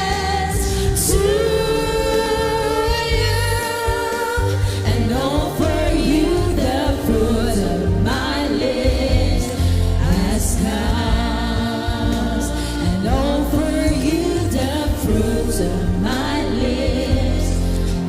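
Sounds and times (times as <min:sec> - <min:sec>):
bass and keyboard: 0:00.0 - 0:18.0
voices singing praise song: 0:00.0 - 0:18.0.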